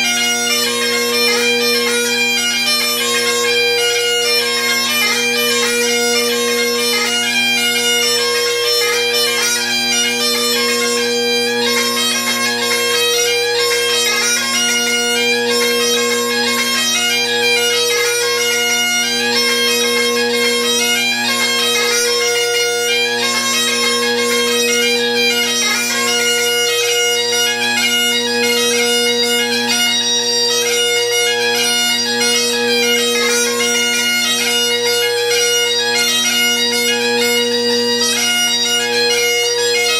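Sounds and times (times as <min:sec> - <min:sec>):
bagpipe playing a jig: 0:00.0 - 0:39.9.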